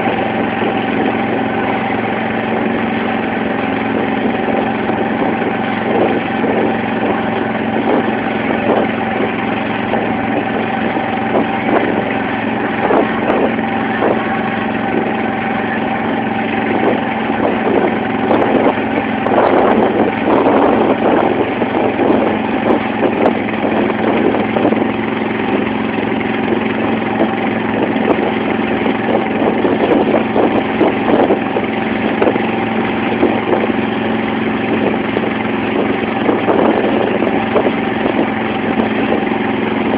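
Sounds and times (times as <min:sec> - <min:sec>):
motorboat engine running: 0:00.0 - 0:39.9
water splashing against hull: 0:00.0 - 0:39.9.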